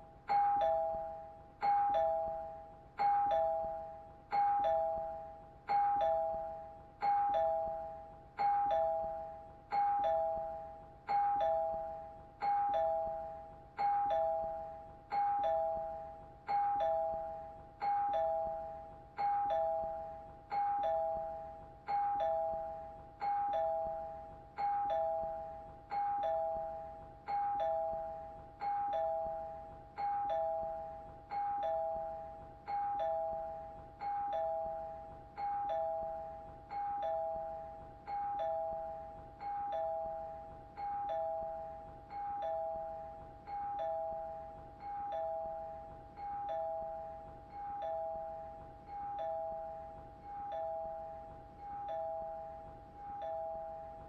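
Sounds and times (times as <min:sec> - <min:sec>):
doorbell chime ding-dong: 0:00.3 - 0:54.0.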